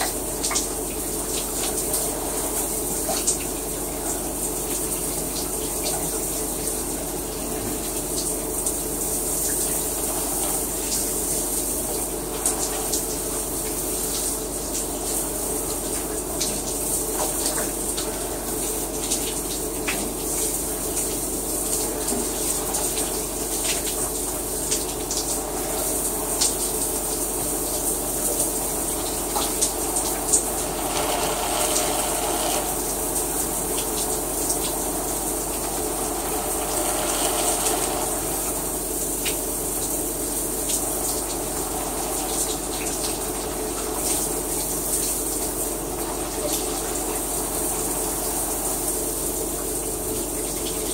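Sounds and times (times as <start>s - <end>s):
shower running: 0.0s - 50.9s
water splashes and drips: 0.0s - 50.9s.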